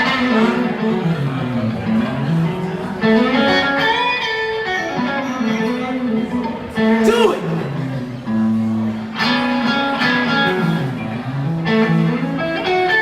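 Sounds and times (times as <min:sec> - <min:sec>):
electric guitar blues lead: 0:00.0 - 0:13.0.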